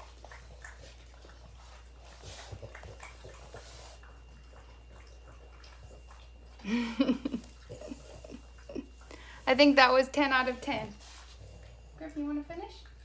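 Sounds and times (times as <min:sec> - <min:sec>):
dogs eating with wet smacking: 0:00.0 - 0:13.0.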